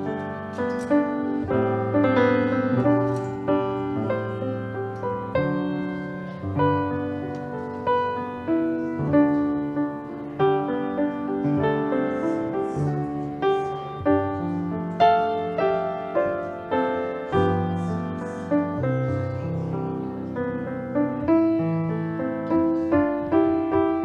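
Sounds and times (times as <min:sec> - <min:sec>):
slow gentle piano piece: 0:00.0 - 0:24.0.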